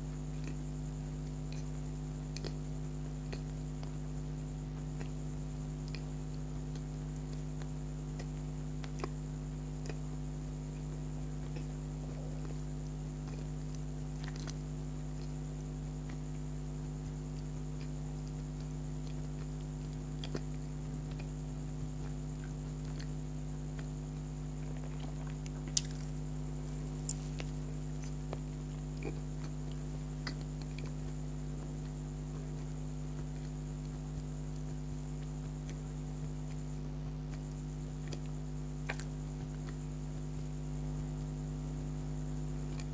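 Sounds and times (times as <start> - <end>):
electrical hum: 0.0 - 42.9
mouth sounds of eating: 0.0 - 42.9.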